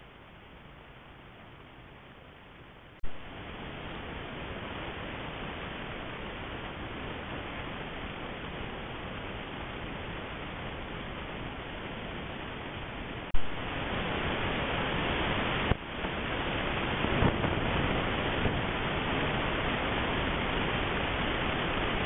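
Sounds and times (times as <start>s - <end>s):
steady microphone hiss: 0.0s - 22.0s.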